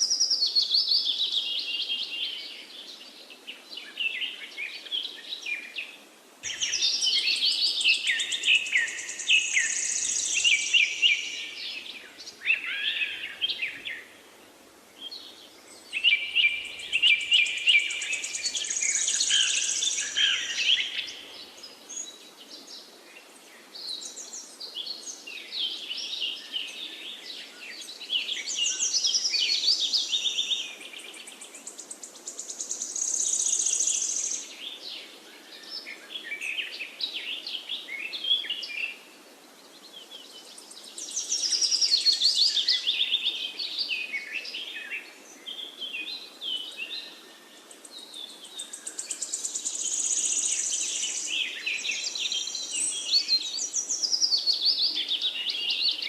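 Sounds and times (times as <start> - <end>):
faint steady hiss: 0.0 - 56.0
songbirds singing with trills: 0.0 - 56.0.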